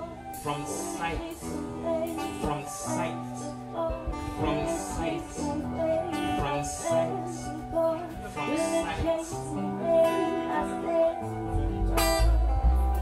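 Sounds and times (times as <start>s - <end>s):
acoustic guitar picking: 0.0s - 13.0s
bass guitar: 0.0s - 13.0s
keyboard: 0.0s - 13.0s.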